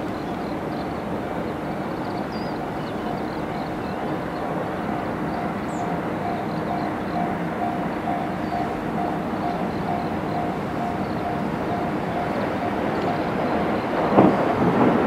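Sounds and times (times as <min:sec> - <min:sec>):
level crossing warning bell: 0:00.0 - 0:14.8
train rumble and hiss: 0:00.0 - 0:15.0.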